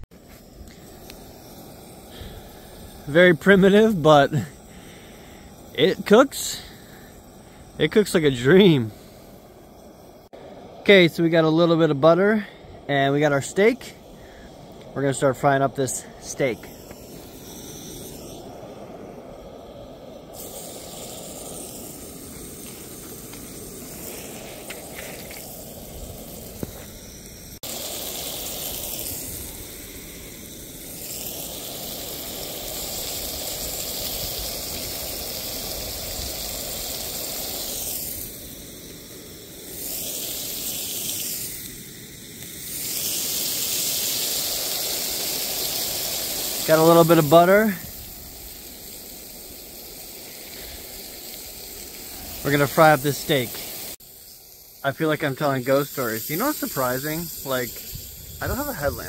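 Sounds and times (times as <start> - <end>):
butter hissing in a pan: 0.0 - 59.0
steak sizzling loudly: 0.0 - 59.0.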